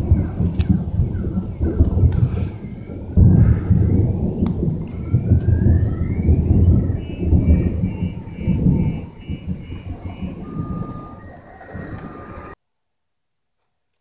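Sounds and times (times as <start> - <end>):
thunder rumble: 0.0 - 12.6.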